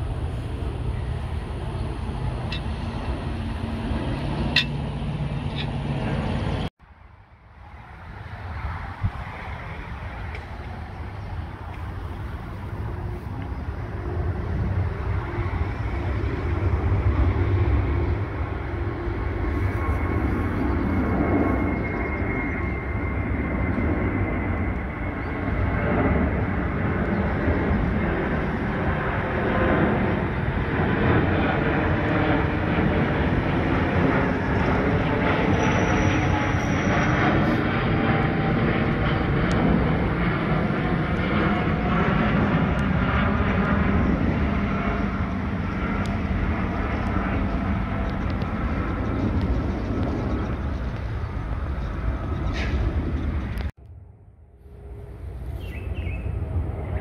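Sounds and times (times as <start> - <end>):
jet engines roaring overhead: 0.0 - 57.0.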